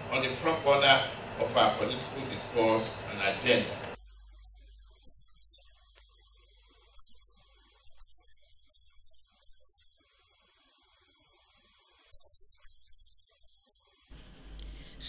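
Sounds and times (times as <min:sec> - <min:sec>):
electrical mains hum: 0:00.0 - 0:15.0
high-pitched whine and hiss: 0:00.0 - 0:15.0.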